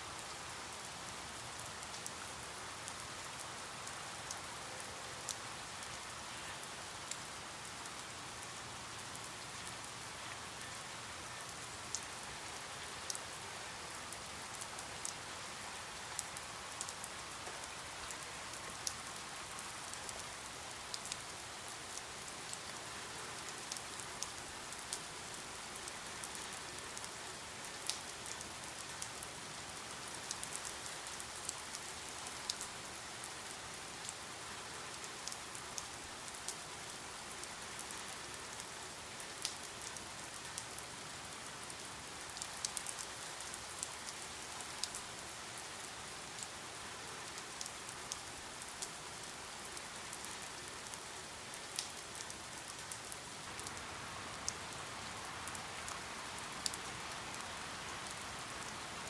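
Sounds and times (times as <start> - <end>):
raindrops ticking on a surface: 0.2 - 4.6, 5.2 - 59.0.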